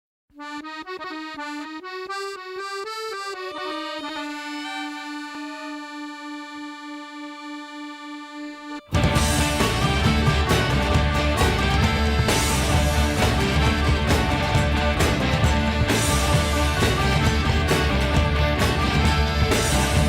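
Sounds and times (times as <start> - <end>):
single instrument melody: 0.4 - 20.0.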